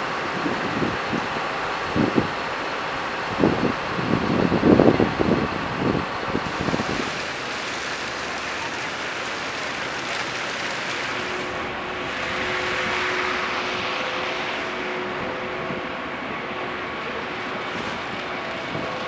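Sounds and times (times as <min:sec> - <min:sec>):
faint steady whine: 0:00.0 - 0:19.0
traffic: 0:00.0 - 0:19.0
wind: 0:00.0 - 0:19.0
wind buffeting microphone: 0:00.0 - 0:19.0.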